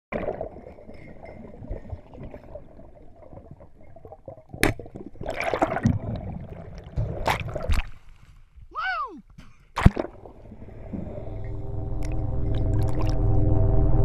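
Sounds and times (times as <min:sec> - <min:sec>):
muffled underwater water noise: 0:00.1 - 0:08.7, 0:09.3 - 0:14.0.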